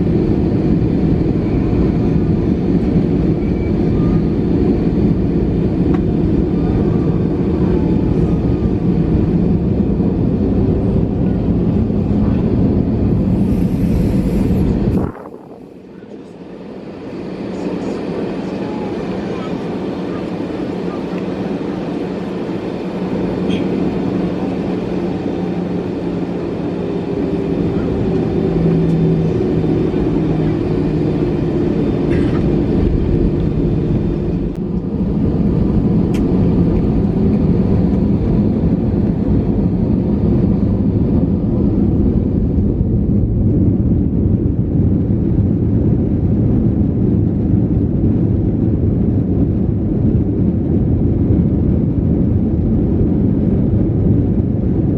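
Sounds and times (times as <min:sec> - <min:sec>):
jet cabin engine roar: 0:00.0 - 0:54.9.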